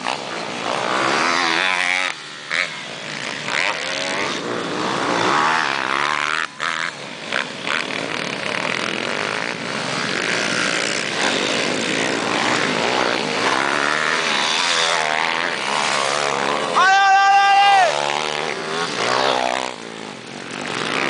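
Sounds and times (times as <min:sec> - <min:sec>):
pit bike engines revving: 0:00.0 - 0:21.0.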